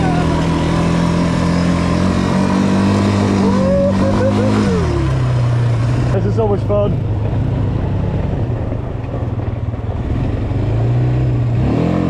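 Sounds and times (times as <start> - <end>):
atv engine running under throttle: 0.0 - 12.0.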